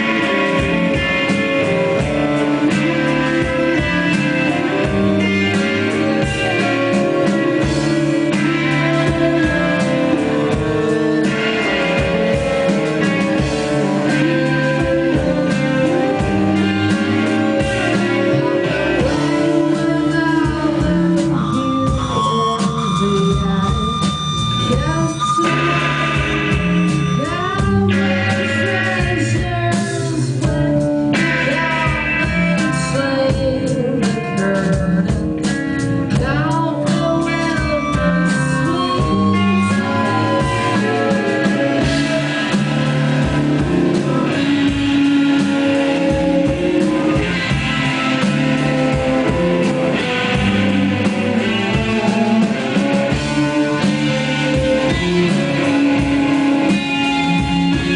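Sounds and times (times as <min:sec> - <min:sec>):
bass guitar: 0:00.0 - 0:57.9
drum kit: 0:00.0 - 0:57.9
electric guitar: 0:00.0 - 0:57.9
person singing: 0:00.0 - 0:57.9.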